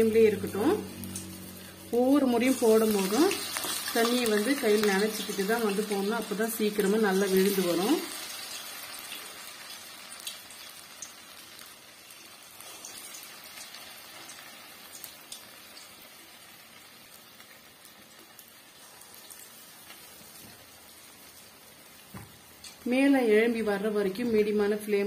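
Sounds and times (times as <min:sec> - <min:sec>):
fritters sizzling in oil: 0:00.0 - 0:25.0.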